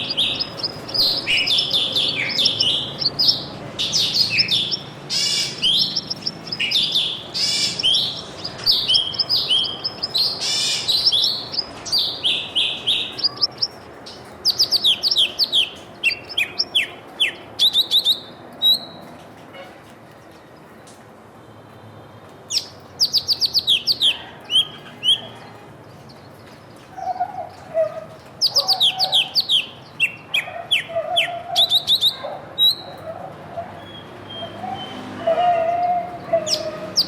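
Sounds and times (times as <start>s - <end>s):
small songbirds chirping: 0.0s - 19.1s, 22.5s - 37.0s.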